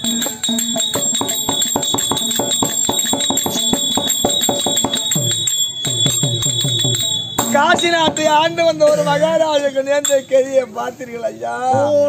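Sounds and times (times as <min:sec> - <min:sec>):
drum strokes: 0:00.0 - 0:10.2
steady high ringing tone: 0:00.0 - 0:10.7
jingling bells: 0:00.0 - 0:10.8.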